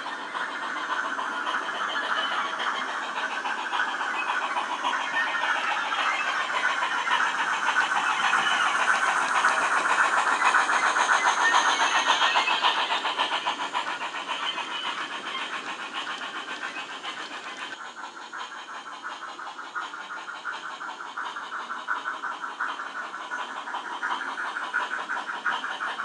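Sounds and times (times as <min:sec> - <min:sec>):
steam exhaust chuffs: 0:00.0 - 0:26.0.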